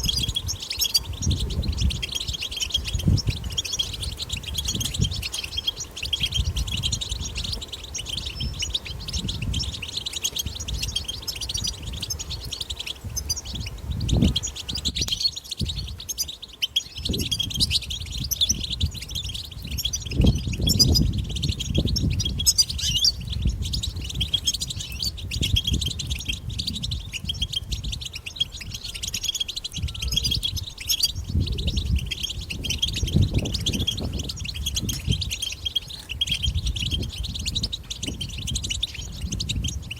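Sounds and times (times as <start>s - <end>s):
bird chattering and twittering: 0.0s - 39.9s.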